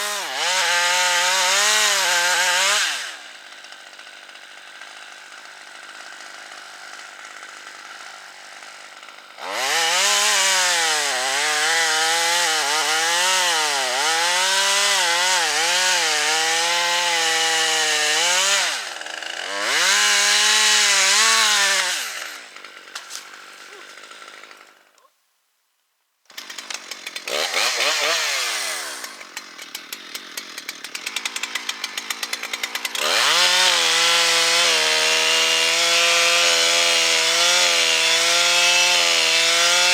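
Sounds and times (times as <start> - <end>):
chainsaw cutting wood: 0.0 - 25.1, 26.2 - 39.9.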